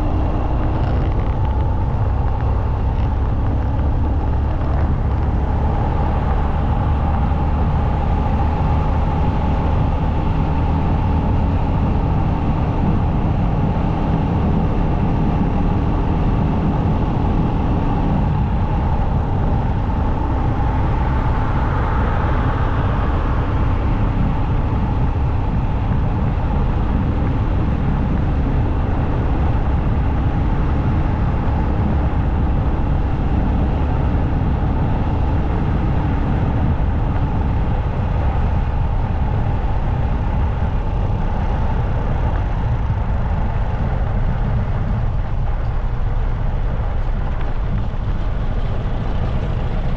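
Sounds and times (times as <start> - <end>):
motorcycle engine drone: 0.0 - 49.9
wind and road noise: 0.0 - 49.9.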